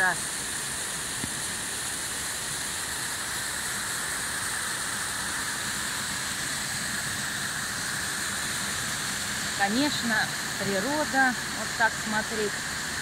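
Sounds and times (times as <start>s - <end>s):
waterfall rushing over boulders: 0.0s - 13.0s.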